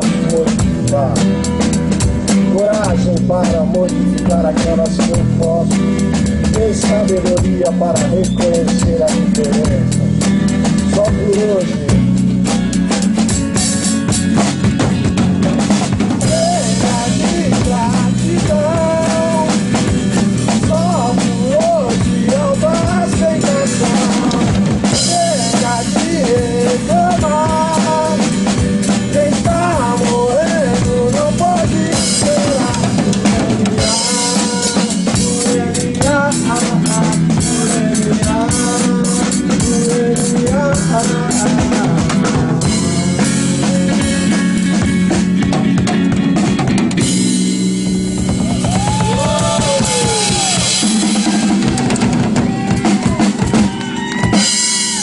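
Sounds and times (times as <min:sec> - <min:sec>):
drum kit beat: 0:00.0 - 0:55.0
melodic lead line: 0:00.0 - 0:55.0.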